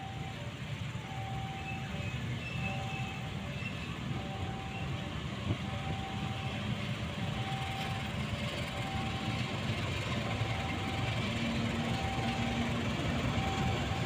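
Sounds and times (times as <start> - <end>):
locomotive engine rumble: 0.0 - 14.0.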